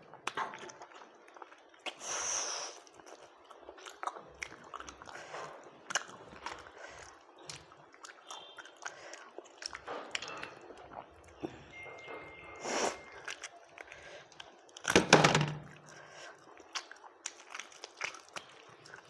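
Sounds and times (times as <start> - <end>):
person chewing food: 0.0 - 14.9, 15.7 - 19.0.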